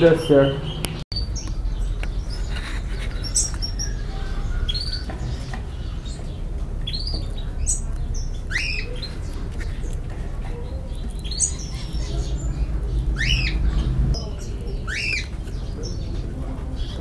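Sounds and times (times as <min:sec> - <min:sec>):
birds chirping: 0:00.0 - 0:17.0
steady low hum: 0:00.7 - 0:17.0.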